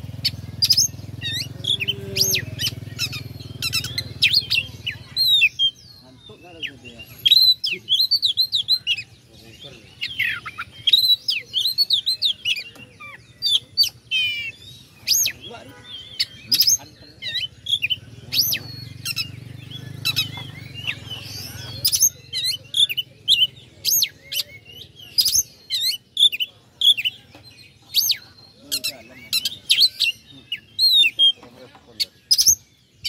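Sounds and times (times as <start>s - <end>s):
bird singing whistled notes: 0.0s - 33.0s.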